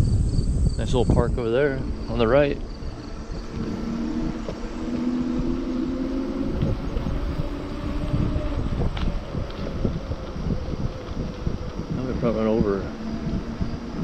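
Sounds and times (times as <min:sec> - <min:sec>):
electric bicycle motor hum: 0:00.0 - 0:14.0
tyres rumbling on asphalt: 0:00.0 - 0:14.0
wind on microphone: 0:00.0 - 0:14.0.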